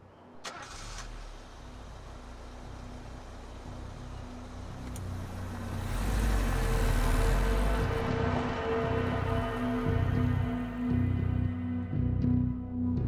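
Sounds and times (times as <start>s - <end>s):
car engine driving off: 0.4s - 11.9s.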